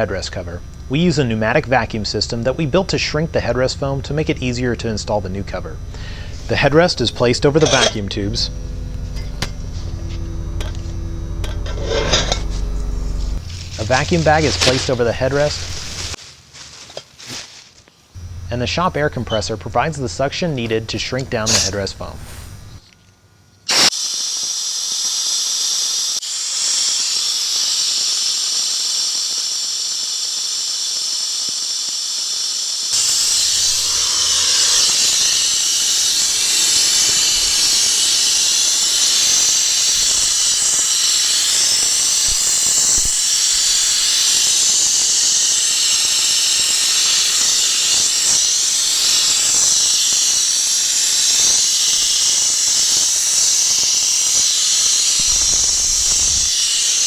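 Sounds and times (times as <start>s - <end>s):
air vacuum hissing: 0.0s - 22.8s, 23.7s - 57.0s.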